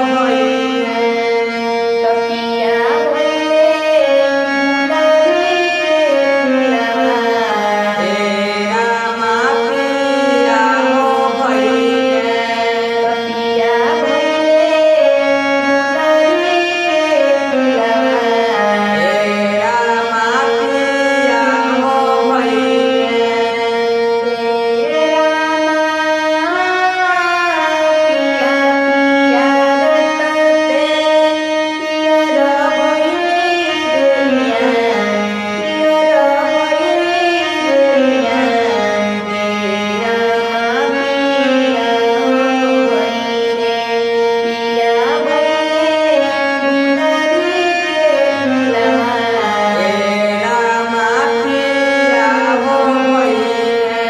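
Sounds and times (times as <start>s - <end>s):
harmonium: 0.0s - 54.0s.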